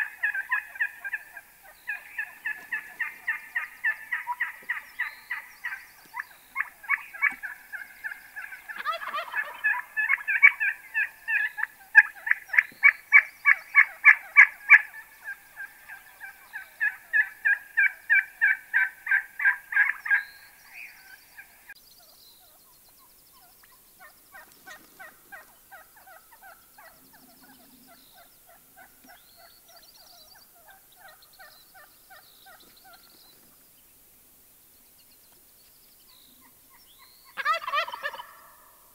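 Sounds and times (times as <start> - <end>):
wild turkeys calling: 0.0 - 33.6, 36.0 - 38.9.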